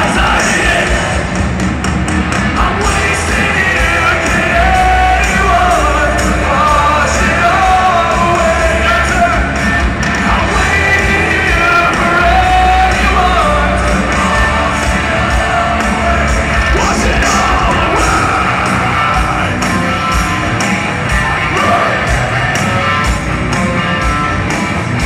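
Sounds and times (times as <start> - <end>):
singer yelling vocals: 0.0 - 1.4, 2.5 - 22.9
live rock band playing: 0.0 - 25.0.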